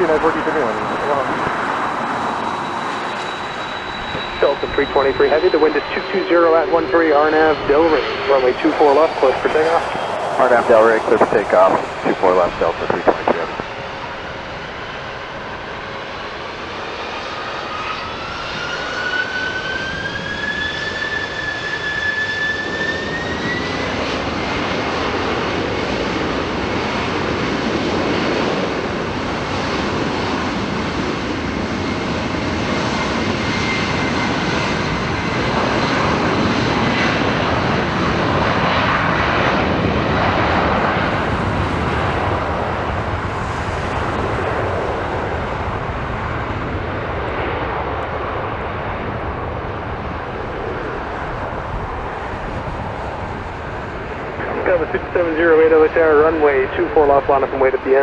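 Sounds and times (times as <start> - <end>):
jet engines spooling up: 0.0 - 57.9.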